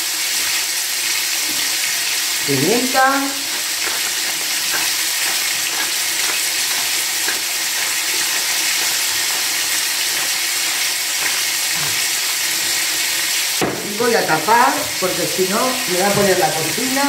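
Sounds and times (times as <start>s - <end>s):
liver sizzling in a pan: 0.0s - 17.0s.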